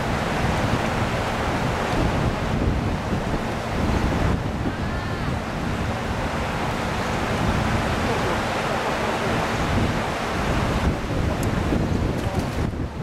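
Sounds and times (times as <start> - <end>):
river water: 0.0 - 13.0
wind buffeting microphone: 0.0 - 13.0.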